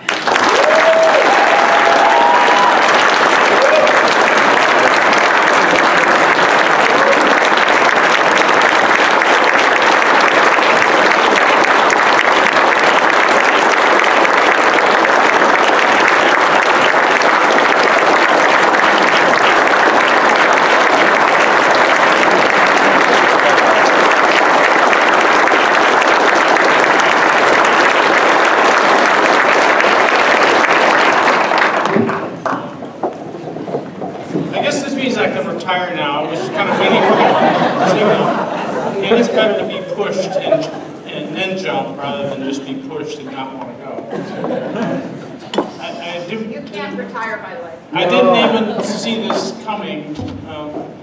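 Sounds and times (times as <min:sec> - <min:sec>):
audience applauding: 0:00.0 - 0:42.1.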